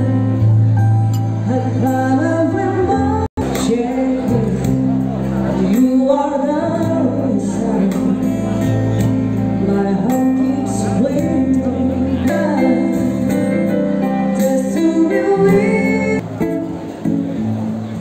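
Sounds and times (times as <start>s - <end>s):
person singing: 1.3s - 16.6s.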